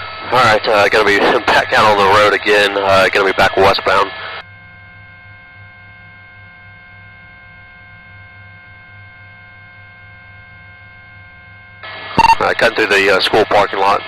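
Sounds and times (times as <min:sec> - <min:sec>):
faint high whining tones: 0:00.0 - 0:14.0
steady intercom hum: 0:00.0 - 0:14.0.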